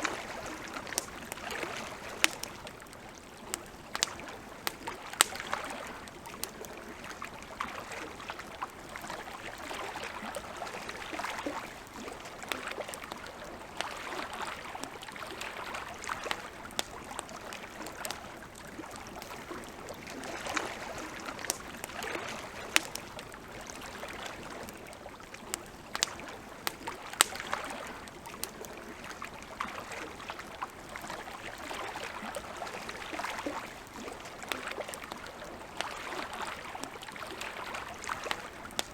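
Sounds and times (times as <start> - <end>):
campfire crackling: 0.0 - 38.9
lake water lapping: 0.0 - 38.9.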